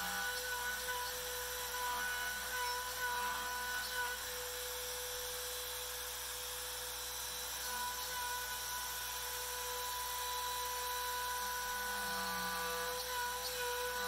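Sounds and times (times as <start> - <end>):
router bit cutting board: 0.0 - 14.0
router spindle whining: 0.0 - 14.0.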